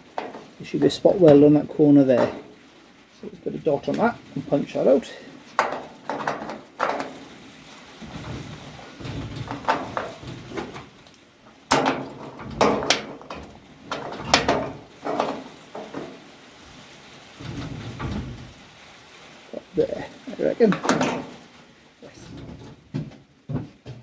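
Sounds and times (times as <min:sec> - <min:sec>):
sheet steel knocking and scraping: 0:00.0 - 0:02.7, 0:03.6 - 0:18.8, 0:20.4 - 0:24.0.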